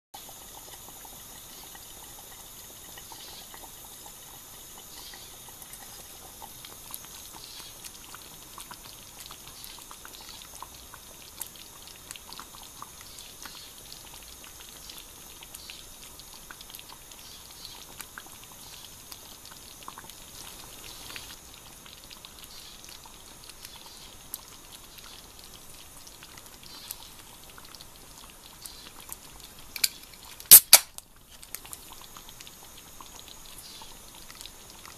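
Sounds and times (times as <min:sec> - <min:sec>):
faint hiss: 0:00.2 - 0:34.9
stew bubbling: 0:00.2 - 0:34.9.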